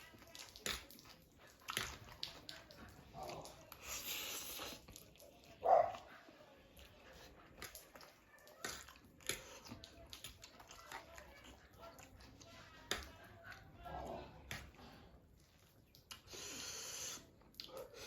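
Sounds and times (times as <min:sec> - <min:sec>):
noodles being chewed and slurped: 0:00.0 - 0:18.0.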